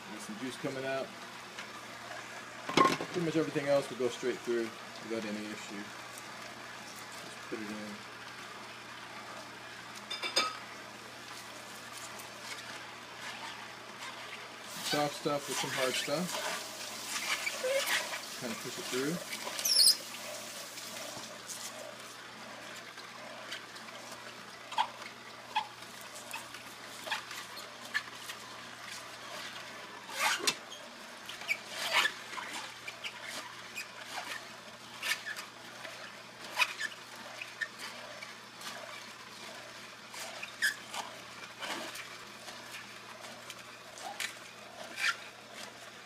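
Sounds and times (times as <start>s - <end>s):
juicer auger crushing produce: 0.0s - 46.0s.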